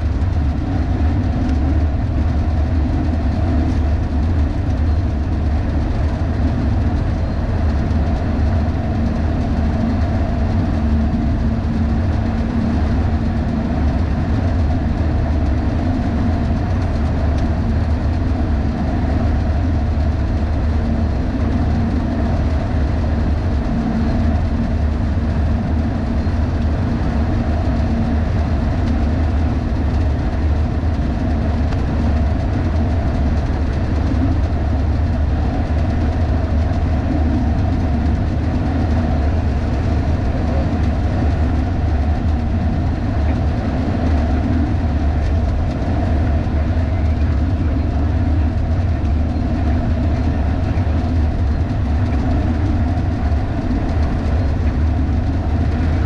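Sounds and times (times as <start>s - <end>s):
truck driving at speed: 0.0s - 56.0s.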